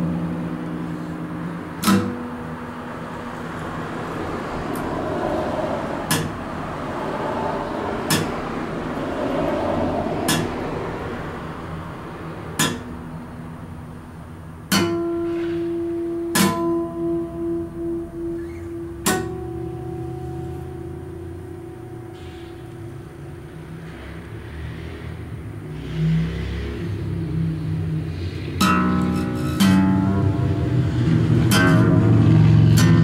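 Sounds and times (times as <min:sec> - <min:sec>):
acoustic guitar chords ringing: 0:00.0 - 0:24.4, 0:27.1 - 0:33.0.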